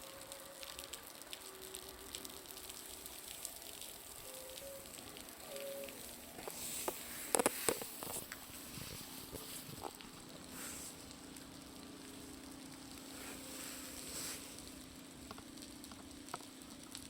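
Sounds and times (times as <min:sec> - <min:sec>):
bonfire crackling: 0:00.0 - 0:17.0
meltwater dripping off roof: 0:00.0 - 0:17.0
fire popping loudly: 0:01.4 - 0:17.0.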